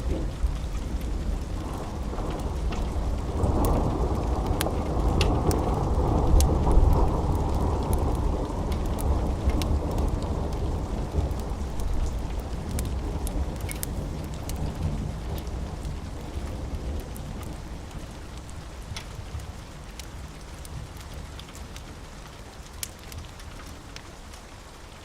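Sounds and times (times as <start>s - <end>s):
low roll of thunder: 0.0s - 21.8s
sharp crackles: 0.0s - 24.8s
steady rain: 0.0s - 25.0s.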